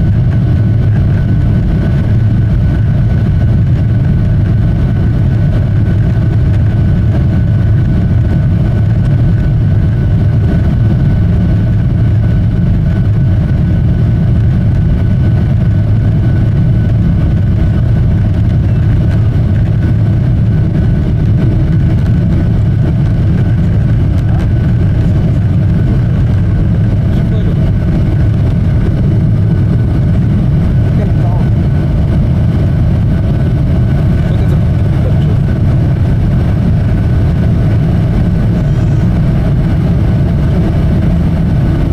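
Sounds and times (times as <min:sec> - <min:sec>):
engine and airflow rumble: 0:00.0 - 0:41.9
faint steady whine: 0:00.0 - 0:41.9.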